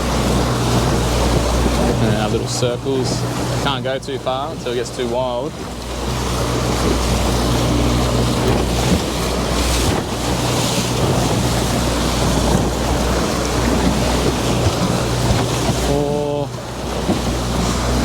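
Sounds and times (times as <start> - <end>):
boat motor humming: 0.0 - 18.0
water washing around hull: 0.0 - 18.0
wind buffeting microphone: 0.0 - 18.0.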